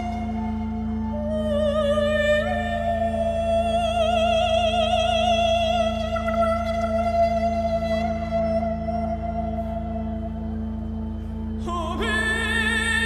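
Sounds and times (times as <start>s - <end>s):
low drone: 0.0s - 13.0s.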